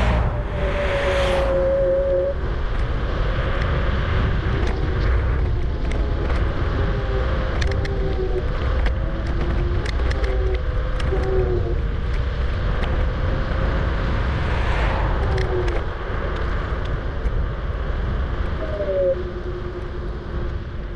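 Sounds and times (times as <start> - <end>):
road noise: 0.0 - 20.9
wind rumble on microphone: 0.0 - 20.9.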